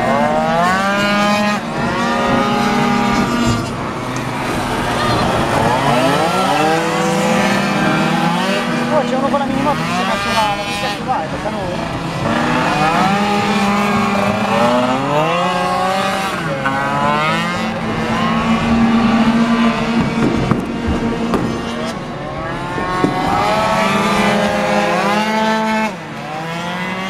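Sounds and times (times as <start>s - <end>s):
racing scooter engines revving: 0.0s - 27.0s.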